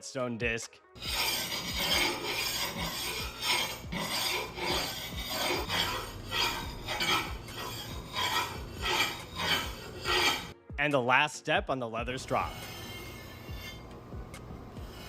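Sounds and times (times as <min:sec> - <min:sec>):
whetstone rasping on steel blade: 0:01.0 - 0:10.6, 0:12.3 - 0:15.0.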